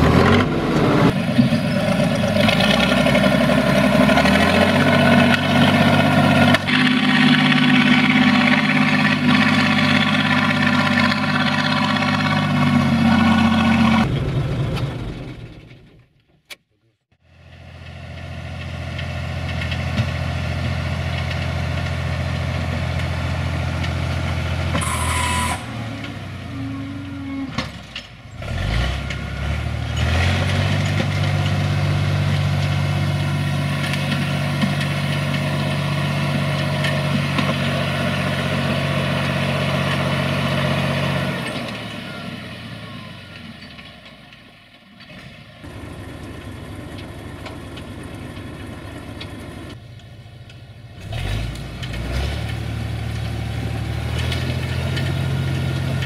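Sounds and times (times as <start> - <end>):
tractor diesel engine running: 0.0 - 16.2, 17.2 - 56.0.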